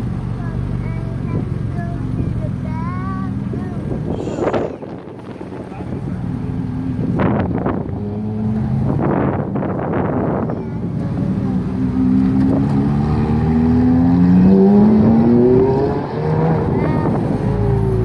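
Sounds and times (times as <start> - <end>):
sports car engine accelerating: 3.4 - 18.0.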